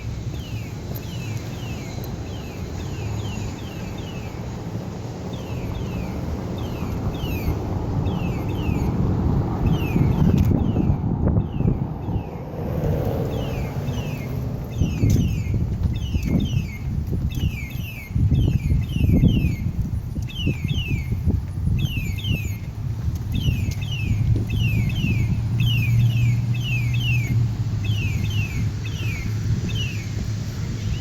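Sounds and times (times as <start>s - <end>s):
low outdoor rumble: 0.0s - 31.0s
vehicle low hum: 0.0s - 31.0s.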